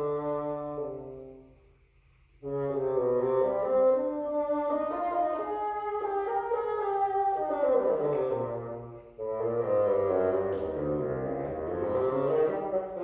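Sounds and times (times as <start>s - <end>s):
bassoon melody: 0.0s - 1.5s, 2.4s - 13.0s.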